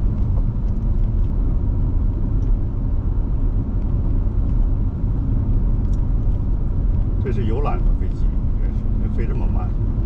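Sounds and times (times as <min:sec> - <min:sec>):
car engine: 0:00.0 - 0:10.0
tyre road noise: 0:00.0 - 0:10.0.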